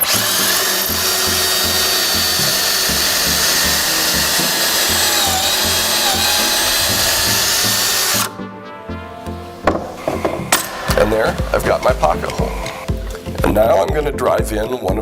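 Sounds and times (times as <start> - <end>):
power drill boring into wood: 0.0 - 8.3, 9.4 - 13.9.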